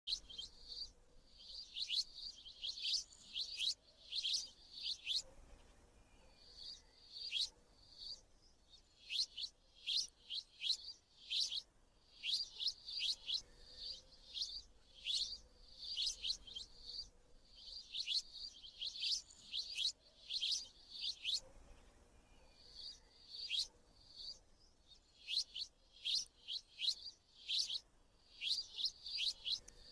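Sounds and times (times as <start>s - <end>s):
sparrow chirping: 0.1s - 29.9s.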